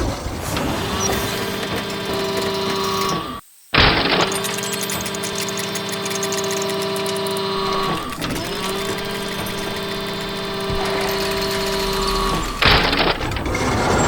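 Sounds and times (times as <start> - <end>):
engine mechanical whir: 0.0 - 14.0.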